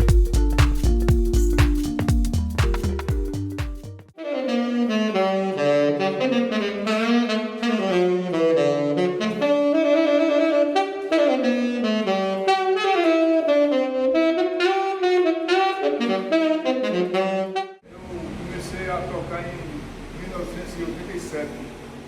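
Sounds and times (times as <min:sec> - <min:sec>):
saxophone solo melody: 0:00.0 - 0:18.1.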